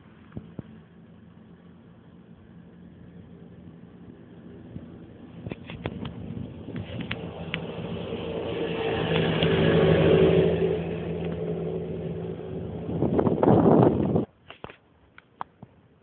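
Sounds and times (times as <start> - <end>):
rough rumbling noise: 0.0 - 14.4
motor vehicle engine hum: 0.0 - 16.0.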